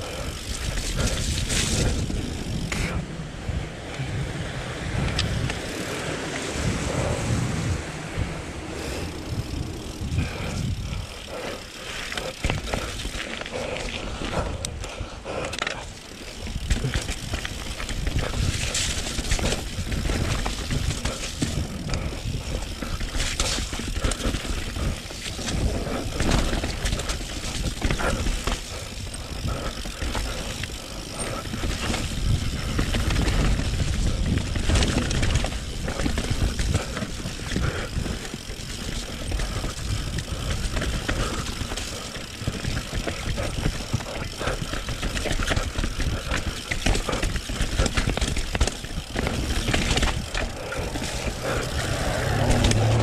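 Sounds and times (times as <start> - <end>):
bike knocks and clatters: 0.0 - 3.0, 9.4 - 14.8, 15.4 - 53.0
bike tyres rumbling on dirt: 0.0 - 53.0.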